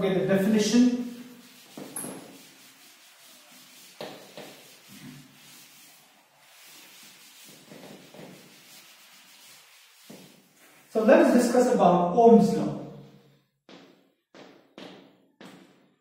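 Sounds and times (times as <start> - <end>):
cloth wiping chalkboard: 0.0 - 11.8, 13.7 - 15.8.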